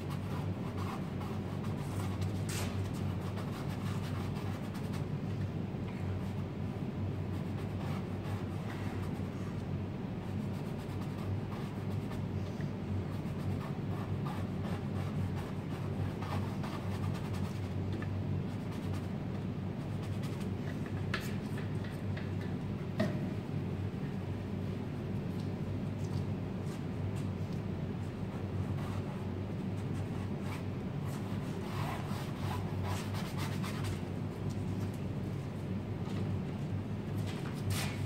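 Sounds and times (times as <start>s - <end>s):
low room hum: 0.0s - 38.0s.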